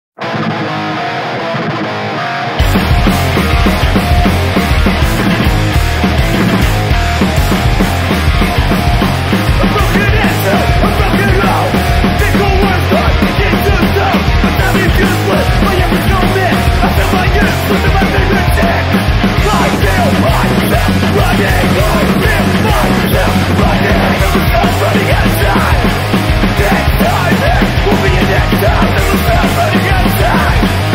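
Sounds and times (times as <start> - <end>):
punk rock song: 0.2 - 30.9.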